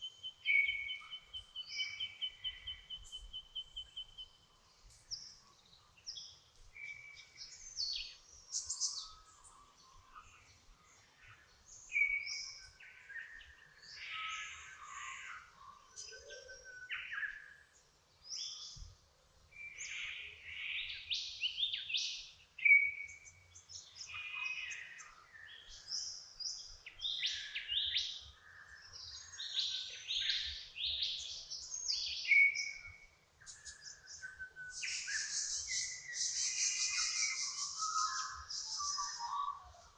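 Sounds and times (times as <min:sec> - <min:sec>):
birds singing and chirping: 0:00.0 - 0:18.9, 0:19.6 - 0:39.9.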